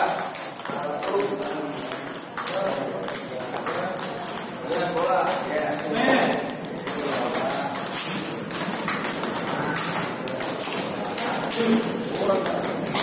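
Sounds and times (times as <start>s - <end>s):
background chatter: 0.0s - 13.0s
table tennis ball clicking: 0.0s - 13.0s.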